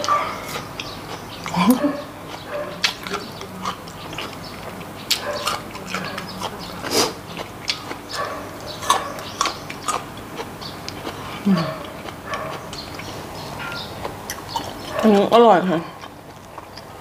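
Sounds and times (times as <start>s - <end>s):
wet chewing with mouth smacks: 0.0s - 17.0s.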